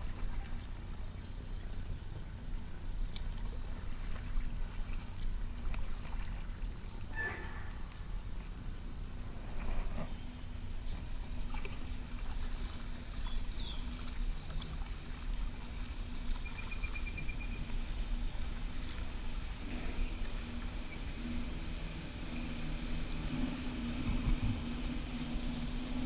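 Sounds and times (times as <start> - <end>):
paddle strokes dipping and dripping: 0.0 - 26.0
steady low rumble: 0.0 - 26.0.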